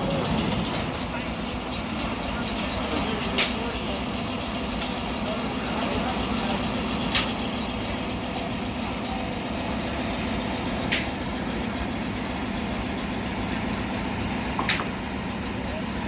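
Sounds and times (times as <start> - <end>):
steam traction engine running: 0.0 - 16.0.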